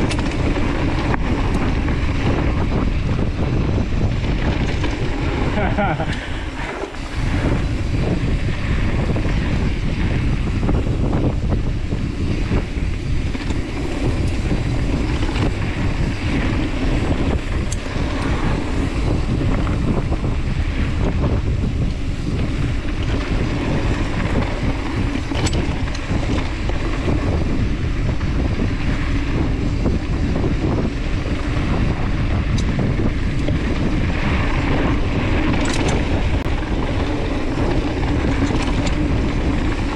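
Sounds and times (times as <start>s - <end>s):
bike clicks and rattles: 0.0s - 39.9s
bike tyres rolling on dirt: 0.0s - 39.9s
wind buffeting microphone: 0.0s - 39.9s.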